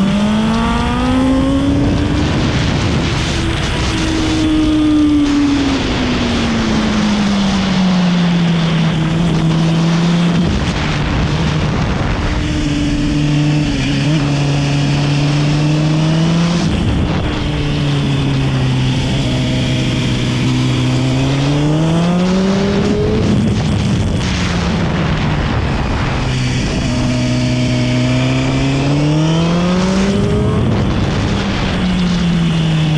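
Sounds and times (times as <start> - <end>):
motorcycle engine: 0.0 - 32.9
steady rushing noise: 0.0 - 32.9.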